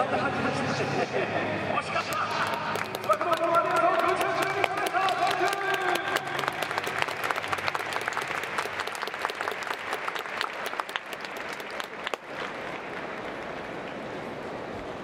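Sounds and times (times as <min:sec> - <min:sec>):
crowd applauding: 0:02.0 - 0:15.0.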